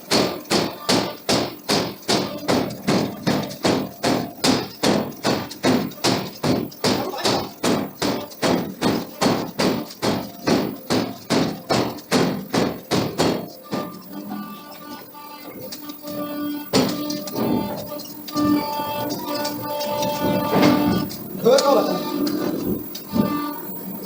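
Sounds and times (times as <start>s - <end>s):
hammer blows on steel: 0.0s - 23.8s.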